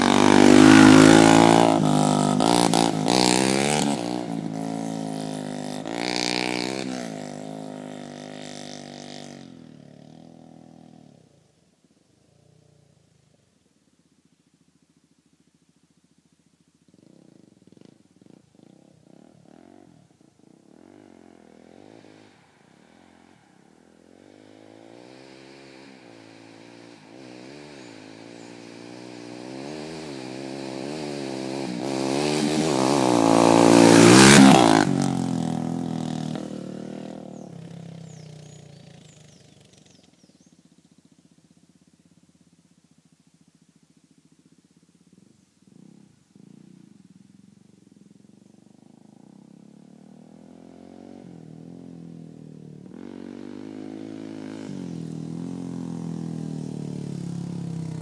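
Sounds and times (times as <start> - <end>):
motorcycle passing by: 0.0 - 13.6, 14.2 - 58.0.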